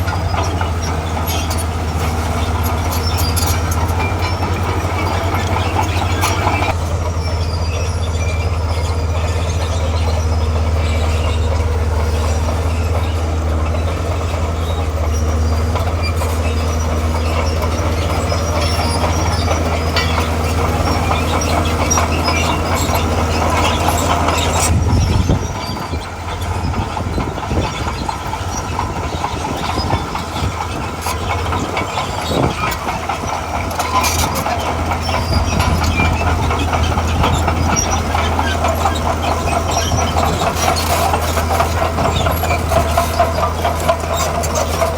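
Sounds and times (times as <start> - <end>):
diesel engine under load: 0.0 - 44.9
steel tracks clattering and squeaking: 0.0 - 44.9.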